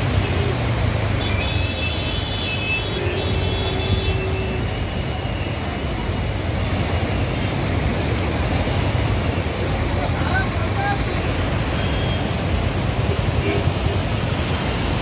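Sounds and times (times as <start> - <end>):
water rushing through gates: 0.0 - 15.0.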